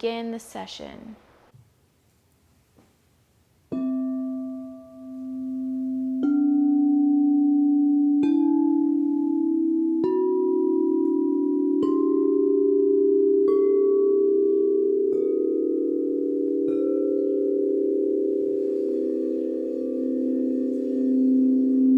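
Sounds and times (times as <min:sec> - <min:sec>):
singing bowls ringing: 0:03.8 - 0:21.9.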